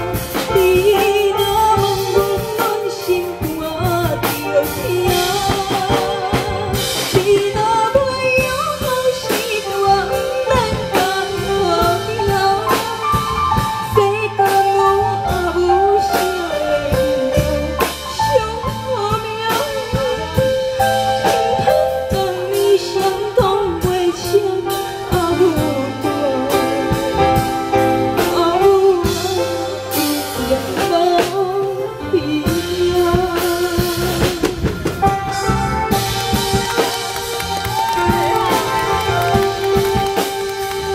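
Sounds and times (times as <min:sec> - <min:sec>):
band backing track with drum beat: 0:00.0 - 0:40.9
woman singing into microphone: 0:00.1 - 0:34.7.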